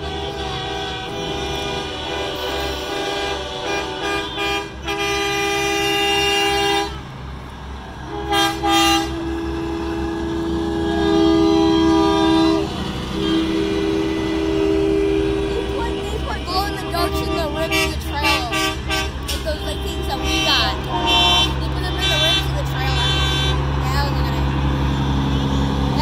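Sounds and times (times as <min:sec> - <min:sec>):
truck air horn blasts: 0:00.0 - 0:07.1, 0:08.0 - 0:26.0
diesel engine rumble: 0:00.0 - 0:26.0.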